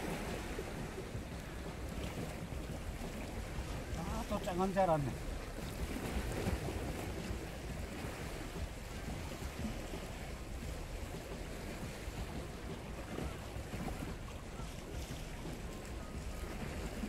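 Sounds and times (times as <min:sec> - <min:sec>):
sea water washing against rocks: 0:00.0 - 0:17.0
wind rumbling on microphone: 0:00.0 - 0:17.0.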